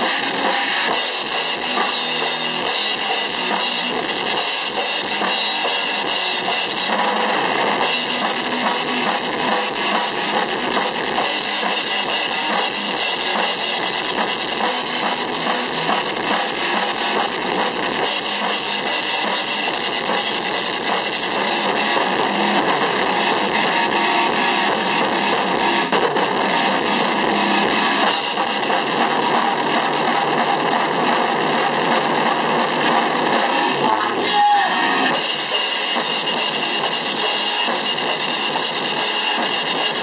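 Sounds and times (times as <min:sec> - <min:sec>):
distorted electric guitar chords: 0:00.0 - 0:40.0
drum beat with cymbals: 0:00.0 - 0:40.0.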